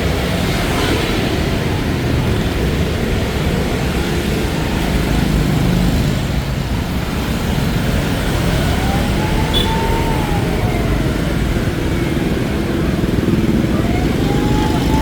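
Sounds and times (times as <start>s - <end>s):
motorbike engines in traffic: 0.0s - 15.0s.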